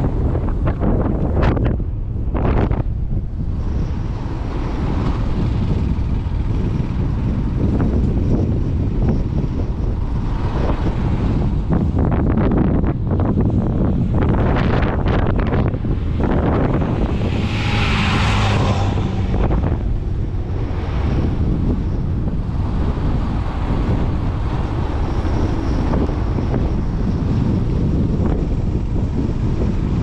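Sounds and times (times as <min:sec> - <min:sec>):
vehicle rumble: 0:00.0 - 0:30.0
wind buffeting microphone: 0:00.0 - 0:30.0.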